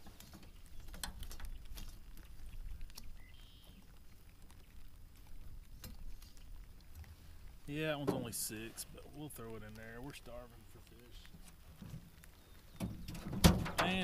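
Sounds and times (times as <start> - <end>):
light clicks and taps: 0.0 - 14.0.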